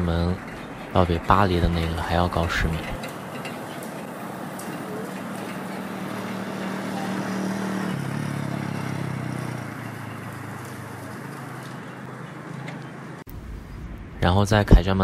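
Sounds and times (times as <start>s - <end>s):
trolleybus passing by humming: 0.0s - 14.3s
road noise: 0.0s - 15.0s.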